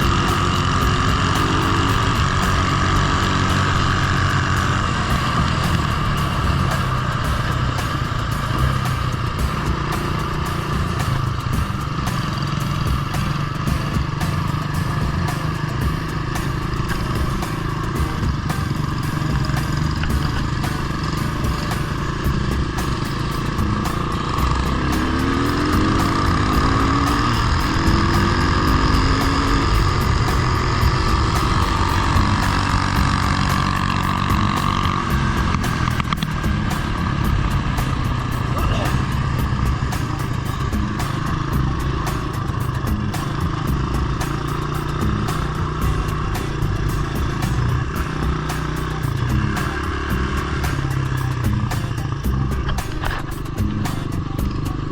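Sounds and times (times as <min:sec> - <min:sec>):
single-cylinder engine revving: 0:00.0 - 0:54.9.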